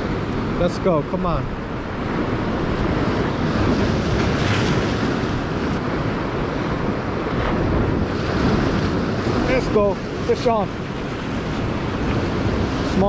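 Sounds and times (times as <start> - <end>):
ocean waves breaking over boulders: 0.0 - 13.0
wind buffeting microphone: 0.0 - 13.0.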